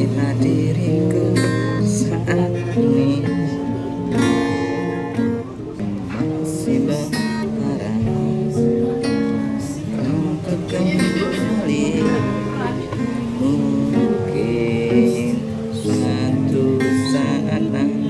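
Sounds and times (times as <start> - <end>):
acoustic guitar strumming: 0.0 - 18.0
man singing: 0.0 - 18.0.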